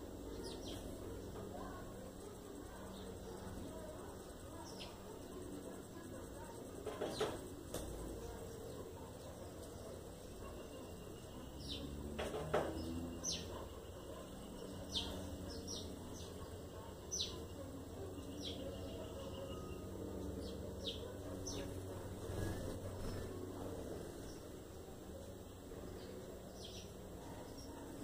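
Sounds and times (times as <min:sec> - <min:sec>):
birds chirping: 0:00.0 - 0:28.0
low background hum: 0:00.0 - 0:28.0.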